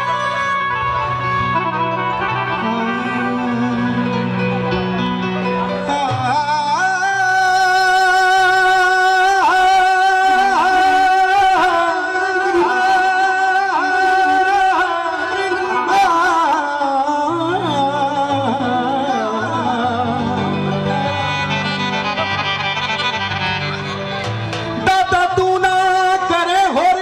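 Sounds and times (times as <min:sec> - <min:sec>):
man singing long notes: 0:00.0 - 0:23.7, 0:24.6 - 0:27.0
electronic keyboard: 0:00.0 - 0:27.0
keyboard bass line: 0:00.0 - 0:27.0.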